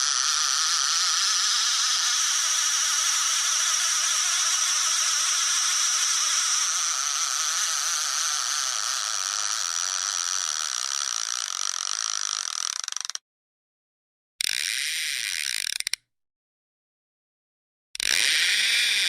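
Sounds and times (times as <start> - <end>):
fishing reel whirring: 0.0 - 13.2, 14.4 - 16.0, 18.0 - 19.0.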